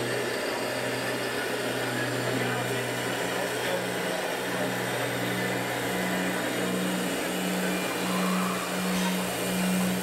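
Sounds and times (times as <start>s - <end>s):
model truck diesel engine sound: 0.0s - 10.0s.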